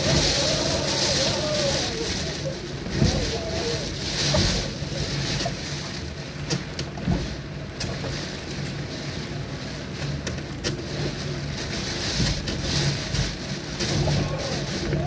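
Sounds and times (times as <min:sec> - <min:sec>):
heavy rain: 0:00.0 - 0:15.0
storm wind: 0:00.0 - 0:15.0.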